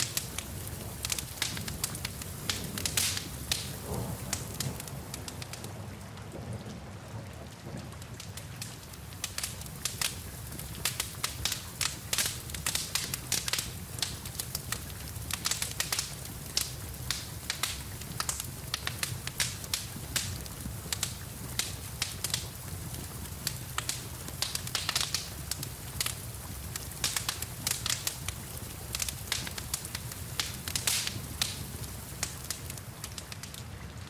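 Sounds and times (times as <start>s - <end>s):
low rumble of flames: 0.0s - 34.0s
rain hissing: 0.0s - 34.0s
wood fire crackling and popping: 0.0s - 34.0s.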